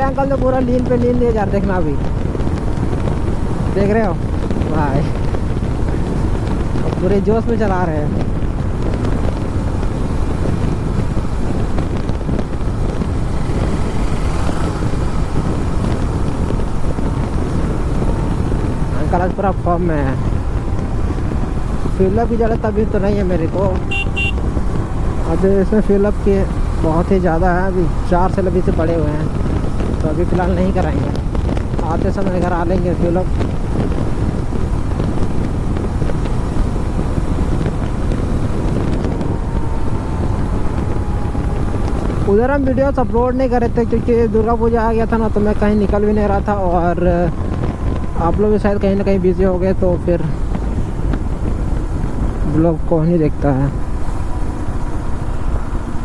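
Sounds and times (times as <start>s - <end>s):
wind buffeting microphone: 0.0s - 56.0s
motorcycle engine running: 1.9s - 56.0s.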